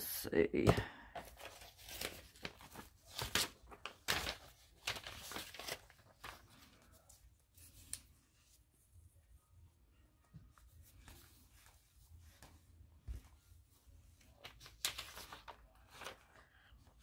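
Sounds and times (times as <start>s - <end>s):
paper crackling and crinkling: 1.2s - 8.6s, 10.5s - 17.0s.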